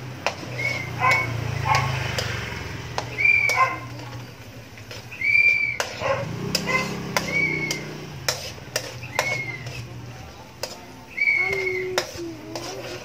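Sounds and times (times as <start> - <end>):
metal ladle scraping wok: 0.0 - 13.0.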